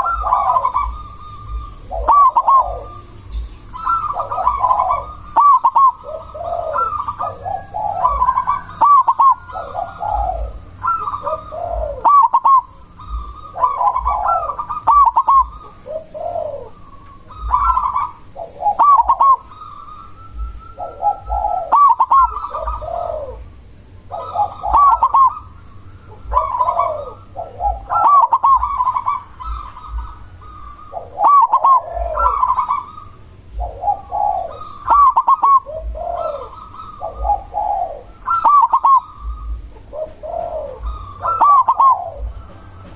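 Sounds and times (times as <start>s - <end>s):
dove cooing: 0.0s - 42.9s.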